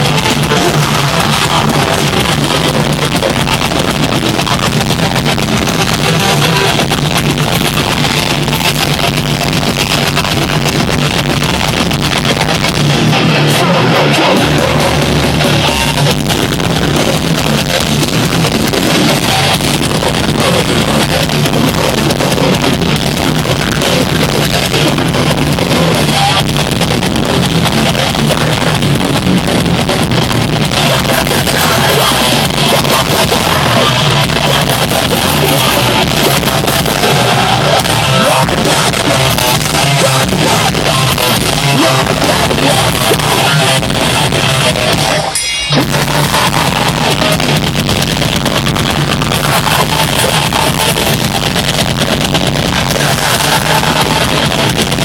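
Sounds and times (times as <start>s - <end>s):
metal band playing live: 0.0s - 55.0s.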